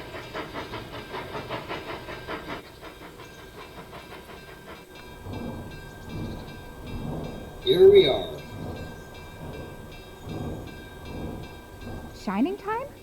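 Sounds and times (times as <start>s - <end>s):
steam hiss: 0.0s - 13.0s
steam locomotive chuffing: 0.0s - 13.0s.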